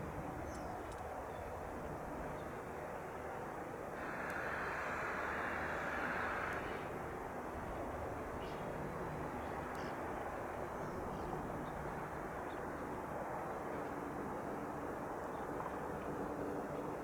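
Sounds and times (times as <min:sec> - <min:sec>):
distant propeller airplane drone: 0:00.0 - 0:17.0.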